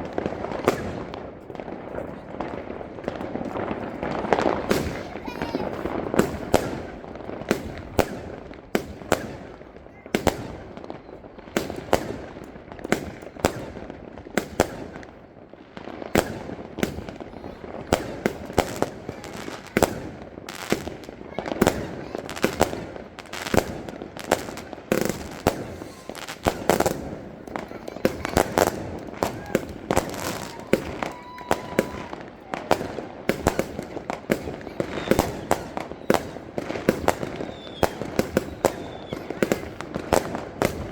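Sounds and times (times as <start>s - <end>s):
fireworks bangs: 0.0s - 40.9s
rattling crackle of fireworks: 0.0s - 40.9s.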